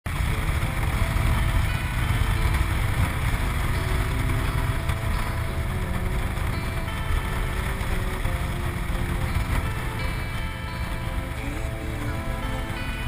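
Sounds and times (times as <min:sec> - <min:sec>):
motorcycle engine running: 0:00.0 - 0:13.0
wind noise on microphone: 0:00.1 - 0:13.0.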